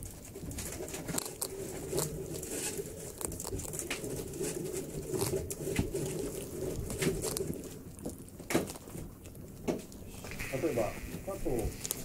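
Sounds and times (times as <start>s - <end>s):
prairie dogs chewing and crunching: 0.0s - 12.0s.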